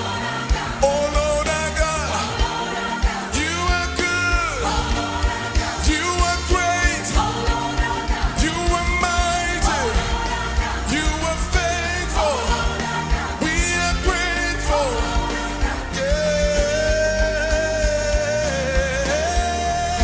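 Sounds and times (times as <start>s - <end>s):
bass line: 0.0s - 20.0s
drum beat: 0.0s - 20.0s
voices singing gospel song: 0.0s - 20.0s.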